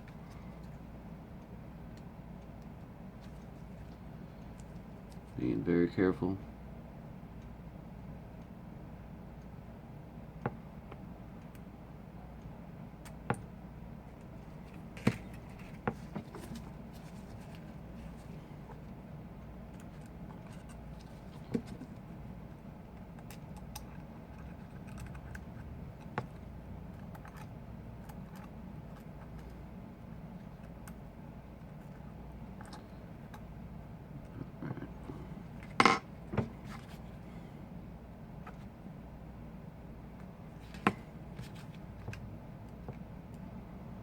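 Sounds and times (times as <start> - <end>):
low background hum: 0.0 - 44.0.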